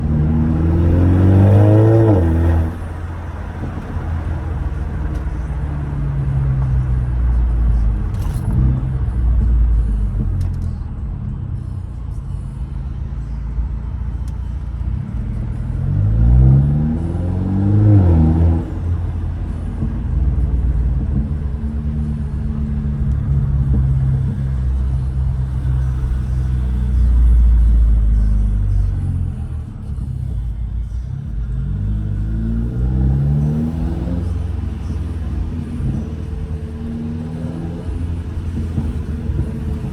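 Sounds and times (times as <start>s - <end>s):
car exhaust drone with revving: 0.0s - 39.9s.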